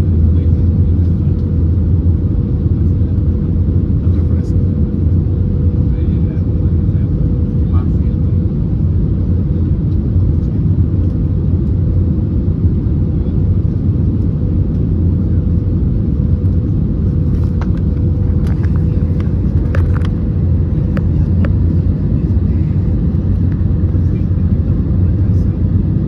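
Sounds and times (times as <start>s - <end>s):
airliner cabin rumble and hum: 0.0s - 26.0s.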